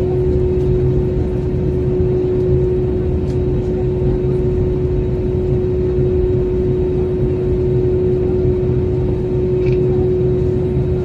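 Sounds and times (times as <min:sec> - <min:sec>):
airliner cabin hum: 0:00.0 - 0:11.0
heavy low rumble: 0:00.0 - 0:11.0.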